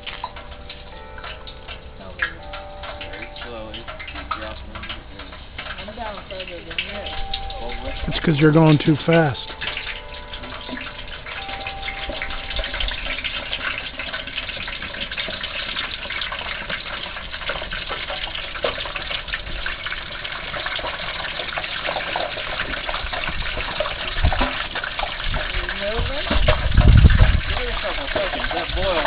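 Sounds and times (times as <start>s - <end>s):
hot oil bubbling and sizzling: 0.0s - 29.0s.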